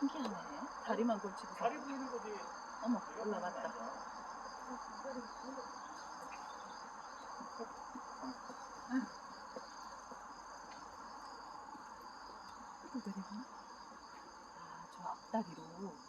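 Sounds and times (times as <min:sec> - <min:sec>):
crickets chirring: 0:00.0 - 0:16.0
faint low murmurs: 0:00.0 - 0:16.0.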